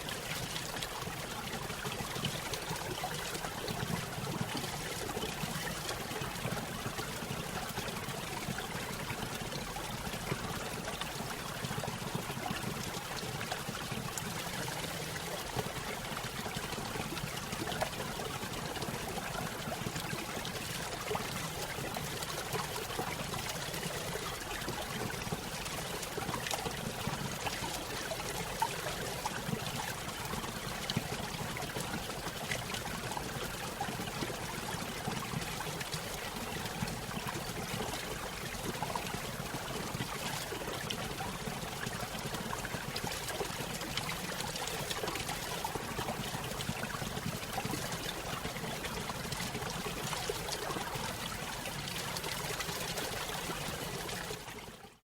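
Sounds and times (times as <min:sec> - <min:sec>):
stream trickling over waterfall: 0:00.0 - 0:55.0.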